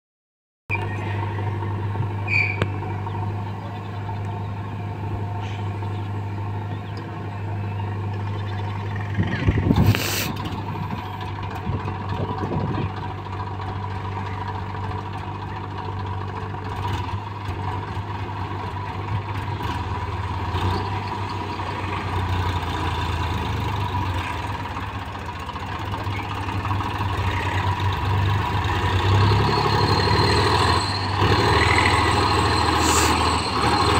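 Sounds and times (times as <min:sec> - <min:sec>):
diesel engines running: 0:00.7 - 0:33.9.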